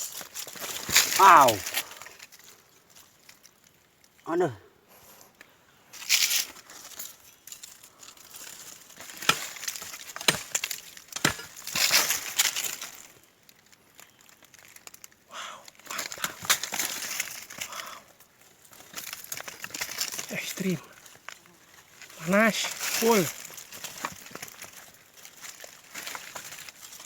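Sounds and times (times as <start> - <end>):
dry material crunching and crackling: 0.0 - 4.3, 5.9 - 27.0.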